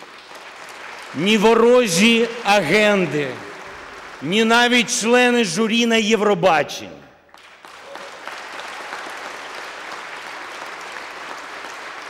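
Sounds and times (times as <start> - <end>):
audience applauding: 0.0 - 5.8, 7.3 - 12.0.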